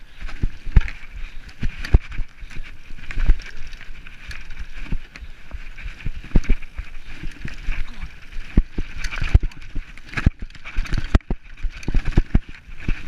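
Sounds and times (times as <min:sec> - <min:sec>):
bike tyres rushing on dirt: 0:00.0 - 0:13.0
bike knocks and rattles: 0:00.2 - 0:13.0.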